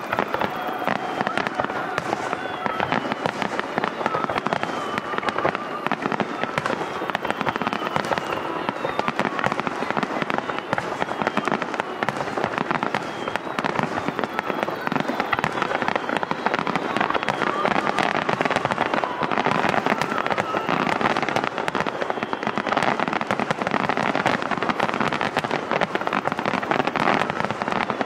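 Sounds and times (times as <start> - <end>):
fireworks cracking and popping: 0.0 - 28.0.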